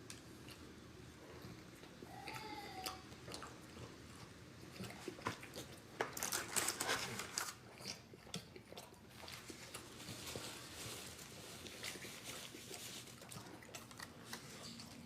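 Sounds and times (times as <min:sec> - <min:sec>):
person crunching and chewing food: 0:00.1 - 0:15.0.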